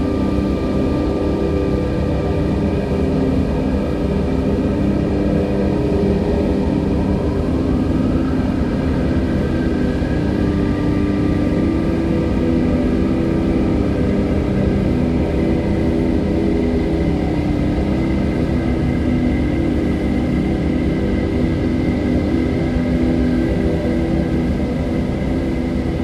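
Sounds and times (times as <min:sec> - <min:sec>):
ambient music drone: 0:00.0 - 0:26.0.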